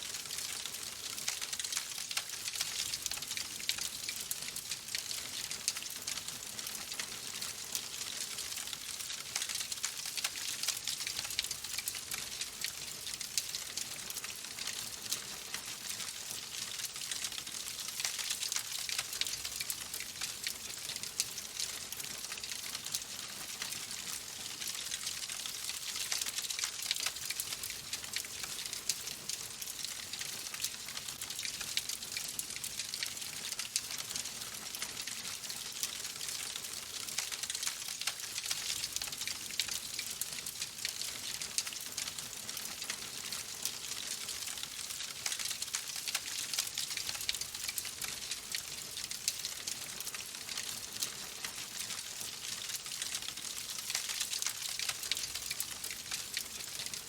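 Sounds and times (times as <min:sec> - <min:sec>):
fireplace fire crackling: 0:00.1 - 0:57.0.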